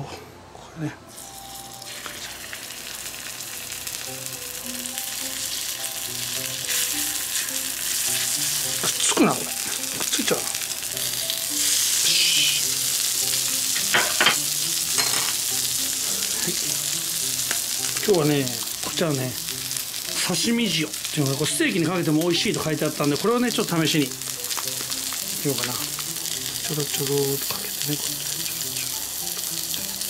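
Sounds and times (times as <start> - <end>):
steak sizzling on a hot plate: 1.1 - 30.0.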